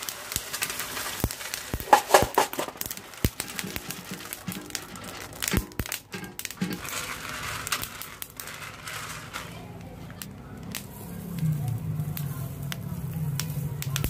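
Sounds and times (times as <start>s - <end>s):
coffee beans clattering into metal tray: 0.0s - 14.0s
faint music: 0.0s - 14.0s.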